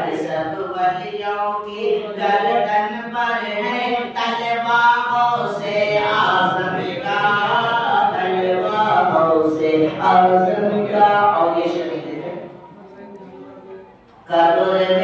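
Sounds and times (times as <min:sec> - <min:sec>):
man chanting through microphone: 0:00.0 - 0:15.0.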